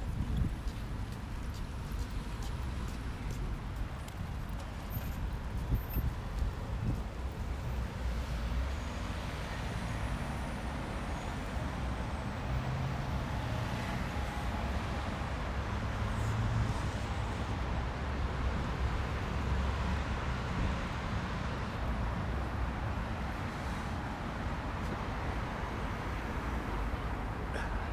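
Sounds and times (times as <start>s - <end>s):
road traffic rumble and tyre hiss: 0.0s - 27.9s.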